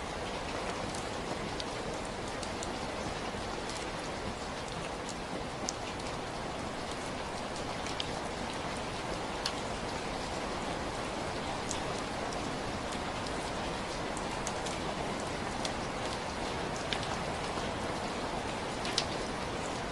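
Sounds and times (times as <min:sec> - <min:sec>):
rain hissing on surfaces: 0:00.0 - 0:19.9
raindrops ticking close by: 0:00.0 - 0:19.9.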